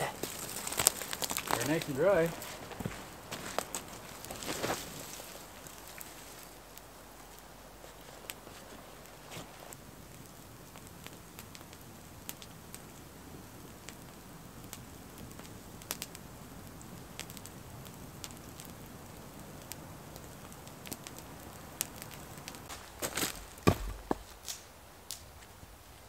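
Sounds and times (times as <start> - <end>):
bark burning with crackles and pops: 0.0 - 26.0
faint steady hiss: 0.0 - 26.0.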